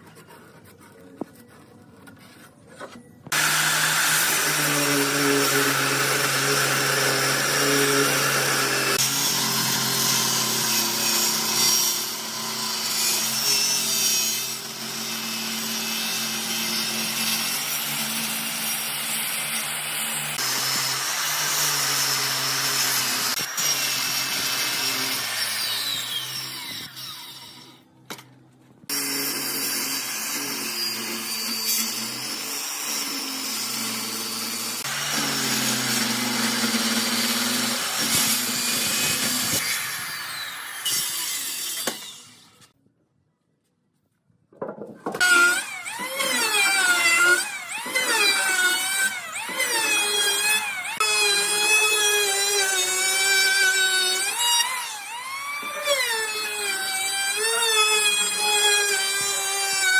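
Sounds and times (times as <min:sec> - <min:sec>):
power tool cutting wood: 0:03.3 - 0:27.8, 0:28.9 - 0:42.7, 0:45.2 - 0:59.9.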